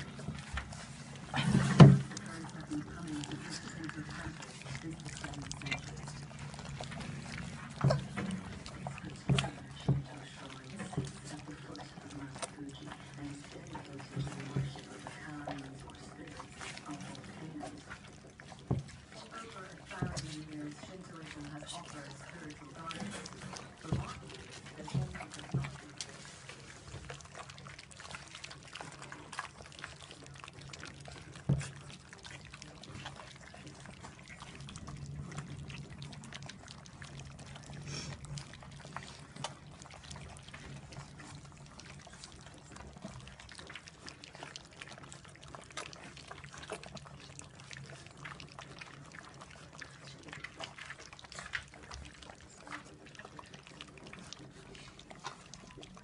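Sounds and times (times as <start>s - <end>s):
puppies lapping and chewing food: 0.0s - 56.0s.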